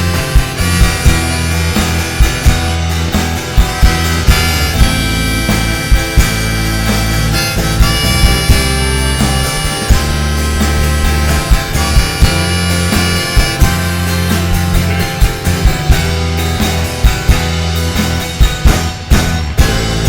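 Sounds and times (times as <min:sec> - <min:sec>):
harmonica lead: 0:00.0 - 0:20.0
live rock band playing: 0:00.0 - 0:20.0.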